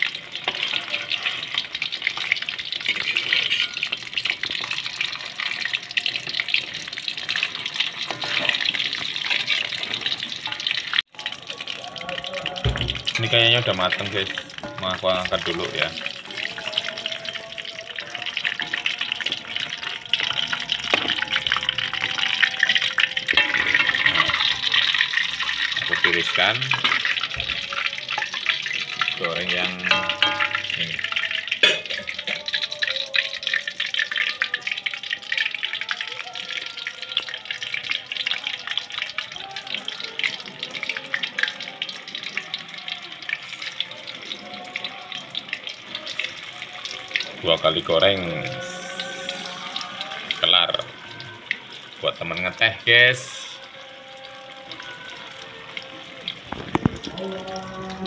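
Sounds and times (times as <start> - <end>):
hot oil sizzling and crackling: 0.0 - 58.0.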